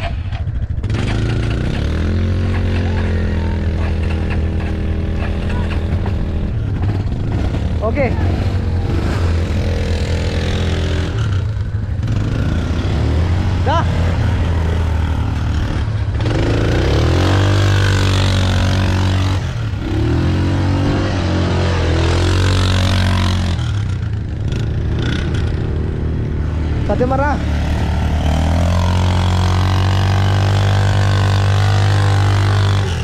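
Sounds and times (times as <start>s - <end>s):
quad bike engine revving: 0.0s - 33.0s.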